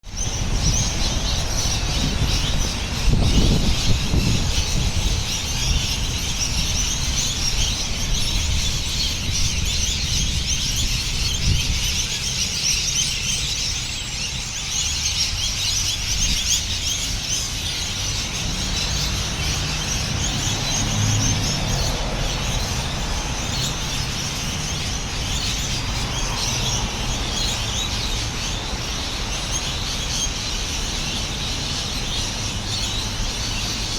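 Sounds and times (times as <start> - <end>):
birds chirping and calling: 0.0 - 33.9.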